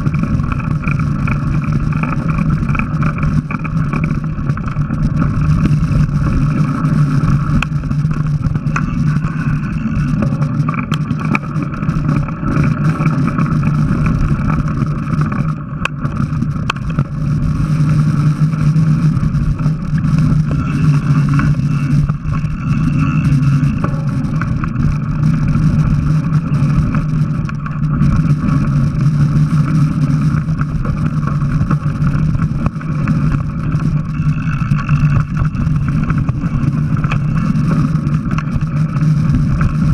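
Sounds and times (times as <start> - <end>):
wind and trail noise rumble: 0.0 - 39.9.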